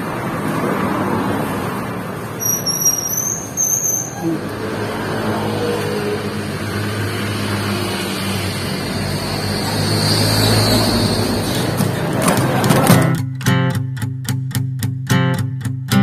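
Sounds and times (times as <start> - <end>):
road noise: 0.0 - 13.2.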